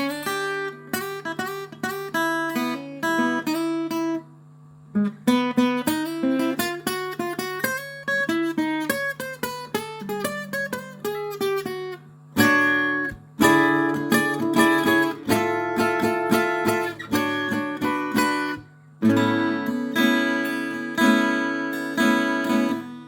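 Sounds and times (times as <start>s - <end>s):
acoustic guitar playing: 0.0s - 4.3s, 4.9s - 23.0s.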